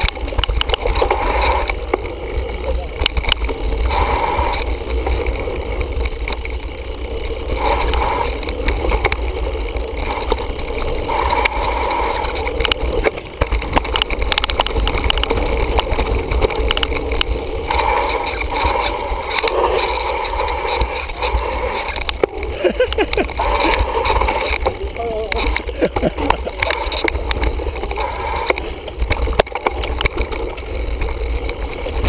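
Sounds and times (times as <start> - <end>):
bike rattling and clattering: 0.0 - 32.0.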